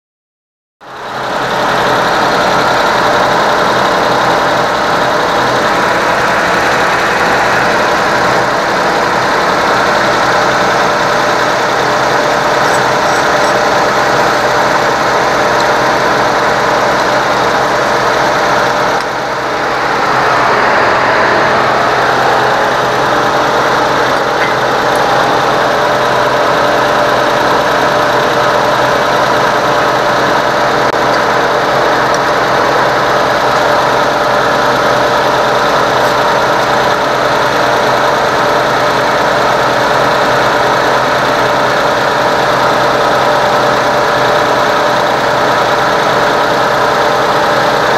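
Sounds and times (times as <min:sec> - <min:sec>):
car engine idling: 0:00.9 - 0:47.9.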